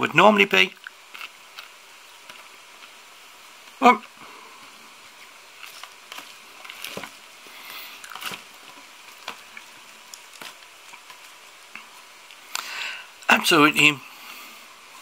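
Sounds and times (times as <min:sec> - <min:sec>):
salad leaves rustling: 0:00.0 - 0:12.6.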